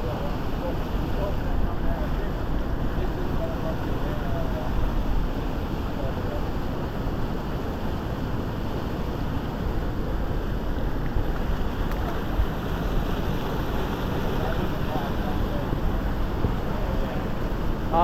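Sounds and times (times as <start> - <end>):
floodwater rushing over weir: 0.0 - 18.0
wind rumble on microphone: 0.0 - 18.0.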